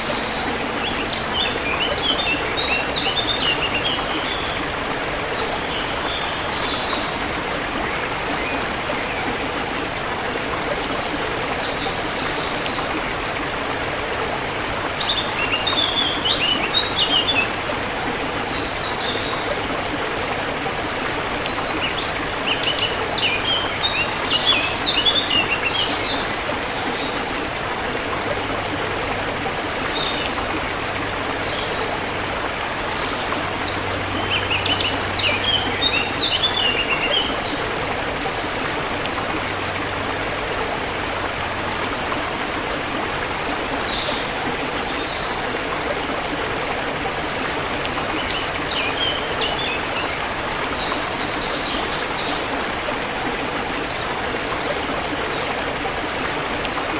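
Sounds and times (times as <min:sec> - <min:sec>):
stream rushing: 0:00.0 - 0:56.9.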